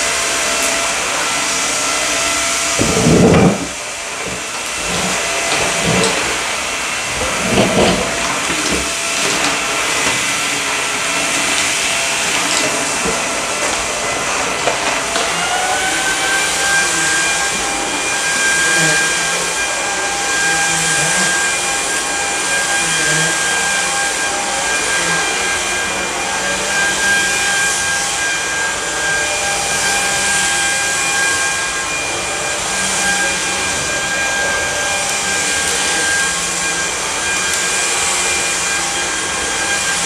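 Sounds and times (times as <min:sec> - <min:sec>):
stick vacuum running on carpet: 0:00.0 - 0:40.0.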